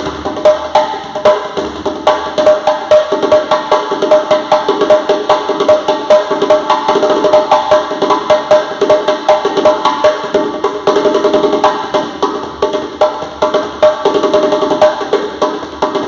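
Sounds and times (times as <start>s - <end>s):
drum played in fast rhythm: 0.0s - 16.0s.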